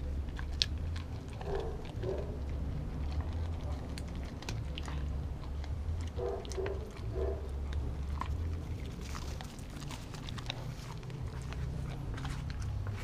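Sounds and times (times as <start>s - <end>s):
dog chewing and licking: 0.0s - 13.0s
low steady rumble: 0.0s - 13.0s.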